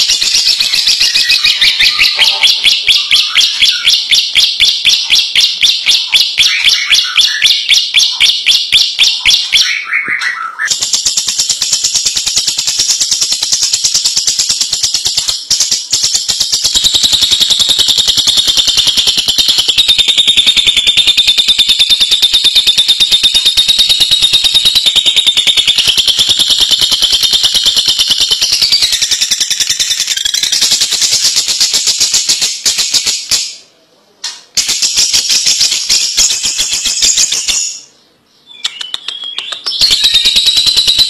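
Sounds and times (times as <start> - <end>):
lovebird chattering trill: 0.0 - 33.6, 34.6 - 37.9, 38.5 - 41.0.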